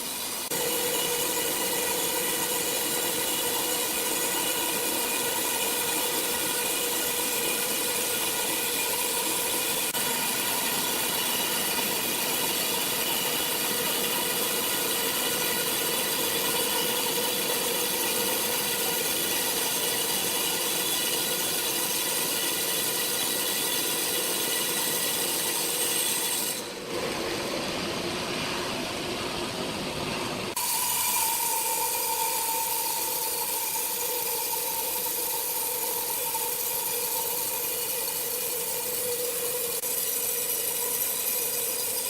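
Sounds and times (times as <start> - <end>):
sawmill saw cutting log: 0.0 - 27.8, 30.5 - 42.0.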